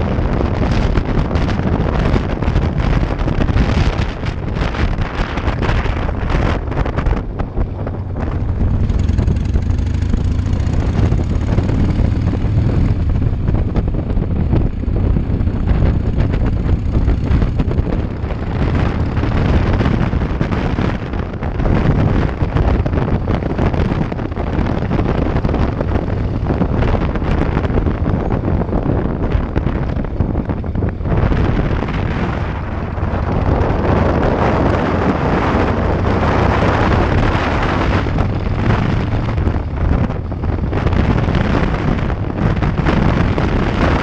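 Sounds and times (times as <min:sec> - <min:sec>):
motorcycle engine rumble: 0:00.0 - 0:44.0
wind noise on microphone: 0:00.0 - 0:44.0.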